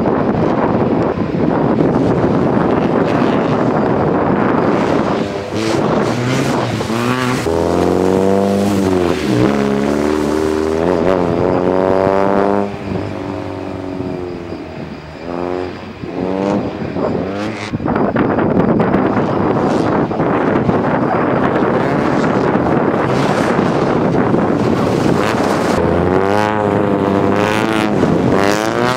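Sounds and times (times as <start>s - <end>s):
wind buffeting microphone: 0.0s - 28.9s
car engine revving: 1.7s - 28.9s.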